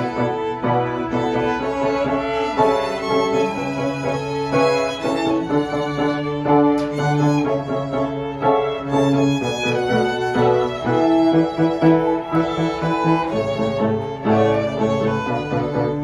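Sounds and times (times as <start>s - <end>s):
cello line: 0.0s - 16.0s
violin melody: 0.0s - 16.0s.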